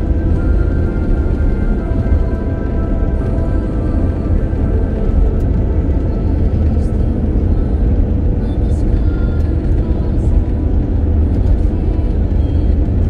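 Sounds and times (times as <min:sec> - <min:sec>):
background music: 0:00.0 - 0:13.0
car driving rumble: 0:00.0 - 0:13.0.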